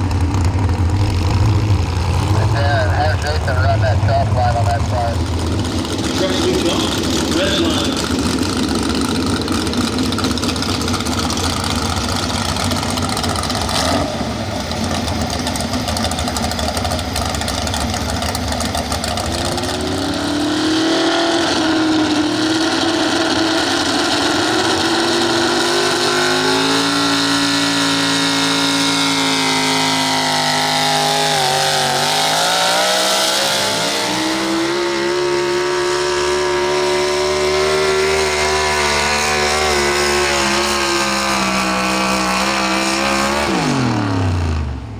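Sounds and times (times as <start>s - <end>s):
truck engine running hard: 0.0s - 44.9s.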